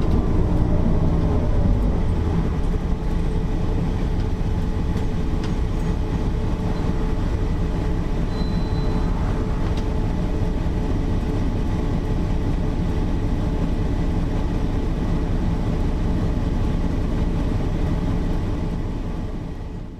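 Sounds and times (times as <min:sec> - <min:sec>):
bus diesel engine rumbling: 0:00.0 - 0:19.9.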